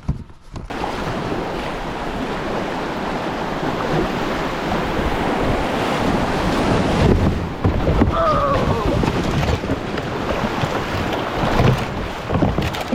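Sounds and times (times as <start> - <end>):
whitewater rapids rushing: 0.7 - 12.9.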